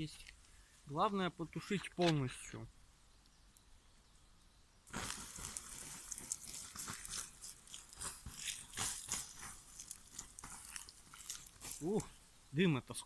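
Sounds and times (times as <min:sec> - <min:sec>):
embers hissing and crackling: 0:00.0 - 0:13.0.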